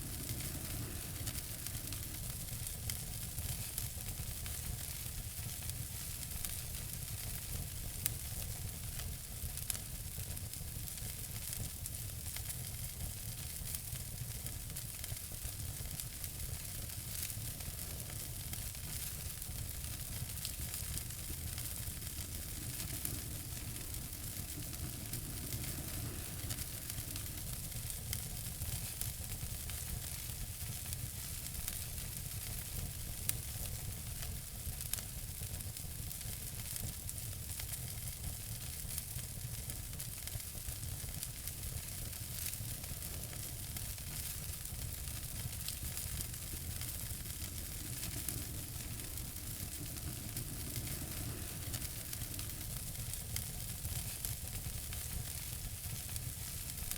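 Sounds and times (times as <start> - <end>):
fire pops and snaps: 0.0 - 56.9
wood fire crackling: 0.0 - 56.9.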